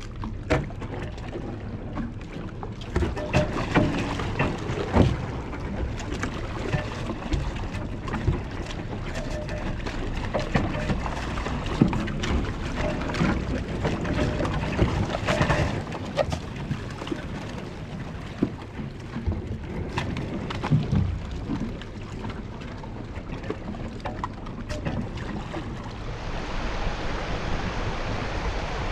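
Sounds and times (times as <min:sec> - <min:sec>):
water rushing along a hull: 0:00.0 - 0:28.9.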